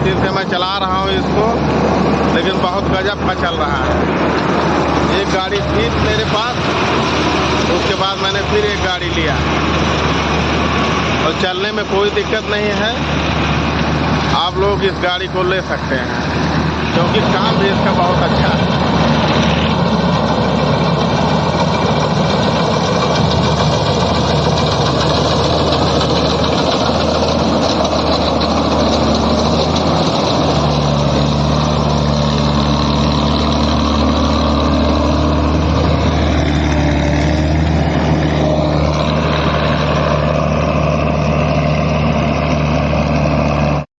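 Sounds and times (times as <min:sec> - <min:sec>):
combine harvester engine running: 0:00.0 - 0:43.8.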